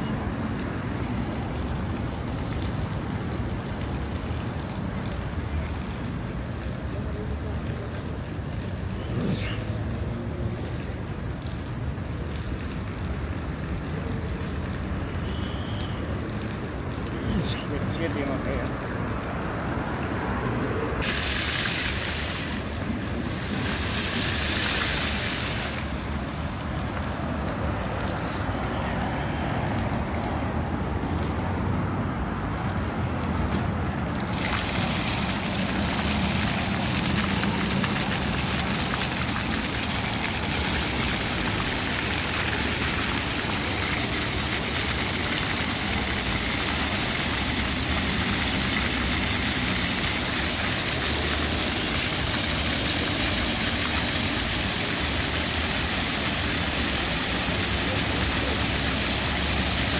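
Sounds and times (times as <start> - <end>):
fountain jets spraying water: 0.0 - 59.9.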